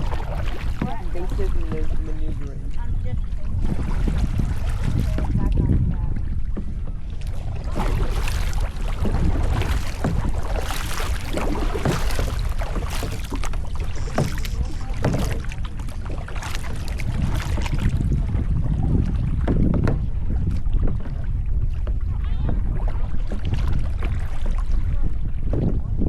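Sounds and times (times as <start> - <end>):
paddle strokes splashing water: 0.0 - 26.0
wind on microphone: 0.0 - 26.0.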